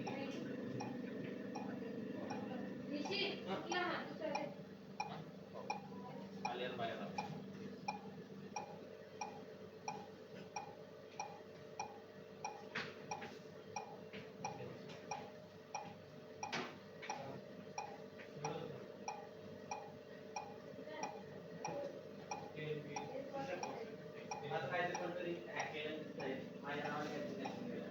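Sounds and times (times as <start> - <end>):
ventilator hum: 0.0 - 27.9
ventilator ticking: 0.0 - 27.9.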